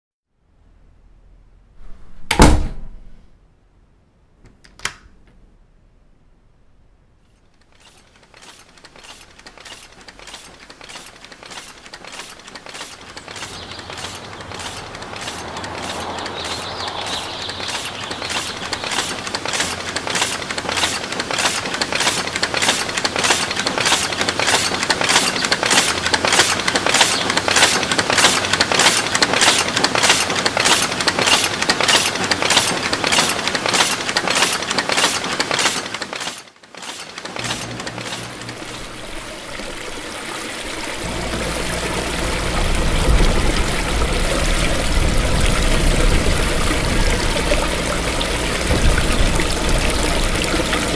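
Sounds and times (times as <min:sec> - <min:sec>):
rhythmic mechanical clanking: 0:07.6 - 0:40.1, 0:40.7 - 0:50.9.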